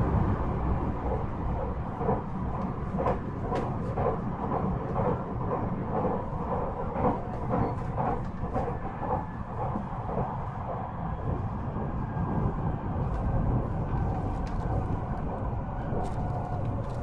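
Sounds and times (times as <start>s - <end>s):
train wheel clatter: 0.0s - 17.0s
train wheels rumbling on rail: 0.0s - 17.0s.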